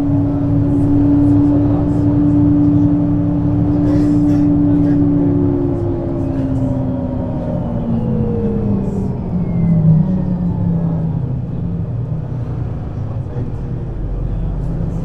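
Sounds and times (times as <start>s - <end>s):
bus engine slowing down: 0.0s - 15.0s.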